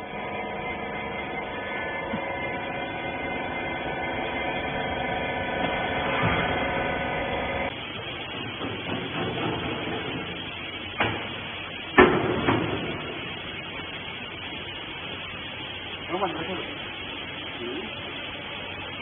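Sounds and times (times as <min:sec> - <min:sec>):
hydraulic pump humming: 0:00.0 - 0:19.0.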